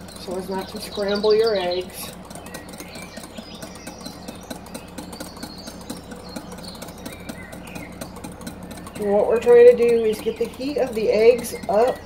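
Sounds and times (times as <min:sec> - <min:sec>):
whisk tapping glass bowl: 0:00.0 - 0:12.0.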